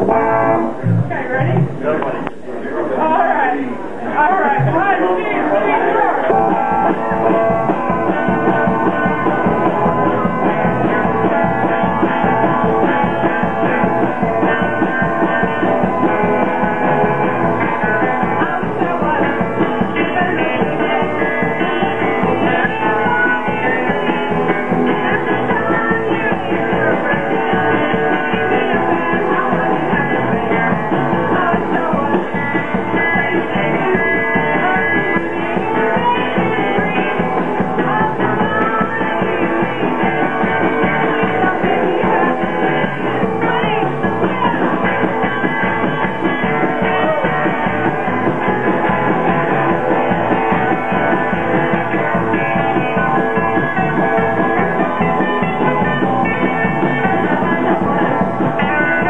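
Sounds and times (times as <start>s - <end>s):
live rock band playing: 0.0s - 2.0s, 5.8s - 59.0s.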